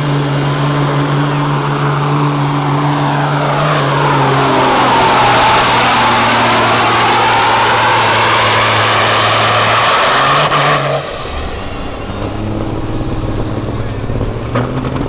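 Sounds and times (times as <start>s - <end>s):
high whine: 0.0s - 15.0s
truck diesel engine at full throttle: 0.0s - 15.0s.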